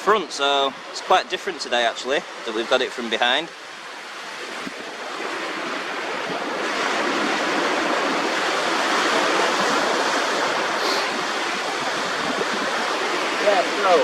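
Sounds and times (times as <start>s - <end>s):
sea waves on sandy shore: 0.0s - 14.0s.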